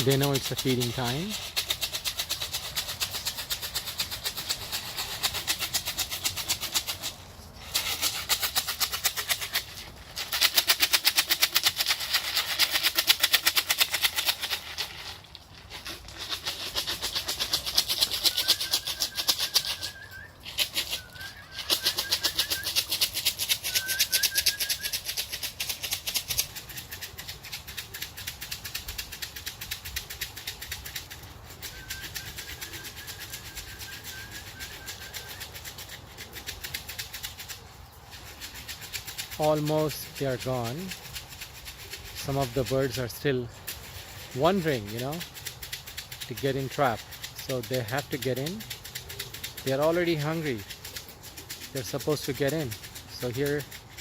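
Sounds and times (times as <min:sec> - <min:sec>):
grain rattling in plastic box: 0:00.0 - 0:54.0.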